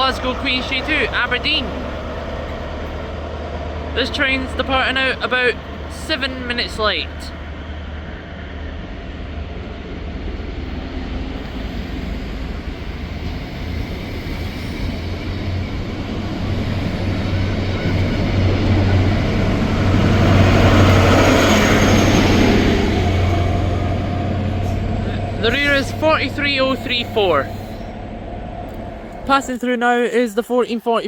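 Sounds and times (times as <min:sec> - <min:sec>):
diesel train engine drone: 0:00.0 - 0:30.6
train wheel and track noise: 0:00.0 - 0:31.0.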